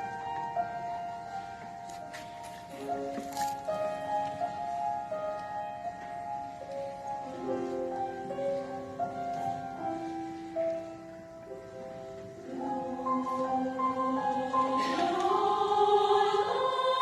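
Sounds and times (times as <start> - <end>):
slow classical piano: 0.0 - 17.0.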